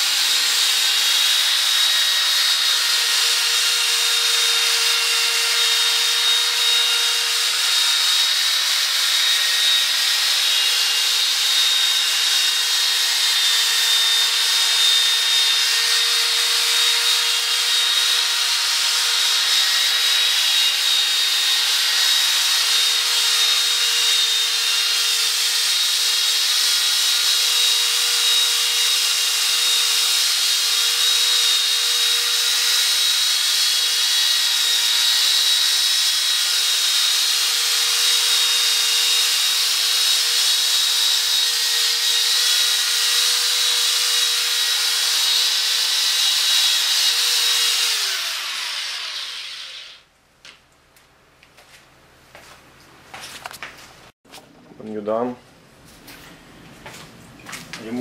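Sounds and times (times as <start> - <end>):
electric drill whining: 0.0 - 50.0.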